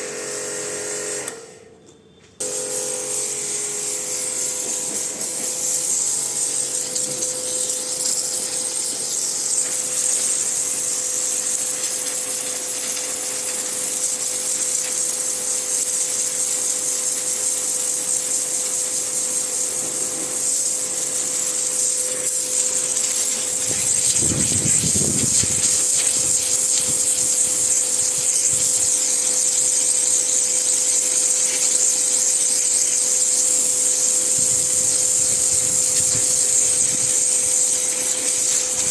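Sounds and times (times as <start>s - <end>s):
pressure washer motor hum: 0.0s - 1.7s, 2.4s - 38.9s
water jet spraying wall: 2.4s - 38.9s.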